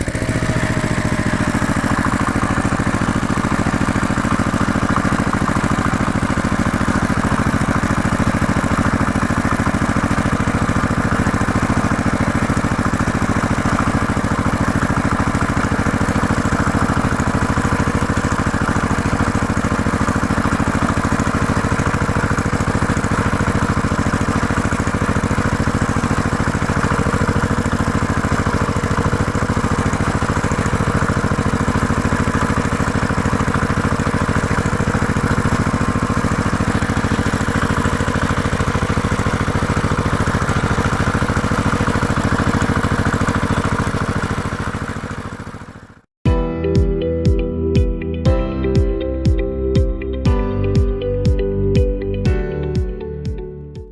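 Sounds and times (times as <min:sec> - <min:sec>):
tractor engine idling: 0:00.0 - 0:46.1.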